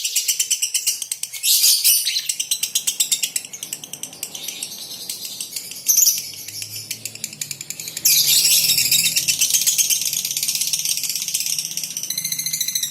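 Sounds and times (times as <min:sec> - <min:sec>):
lovebird rattling chatter: 0:00.2 - 0:12.9.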